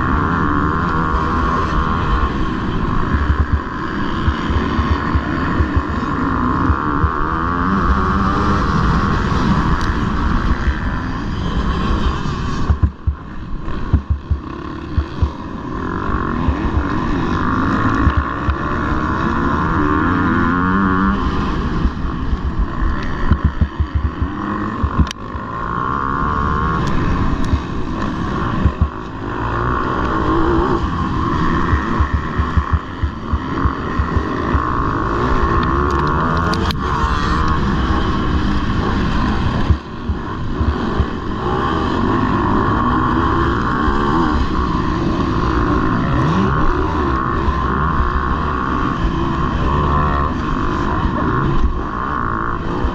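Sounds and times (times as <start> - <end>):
wind noise: 0.0 - 51.9
motocross bike engine revving: 0.0 - 52.9.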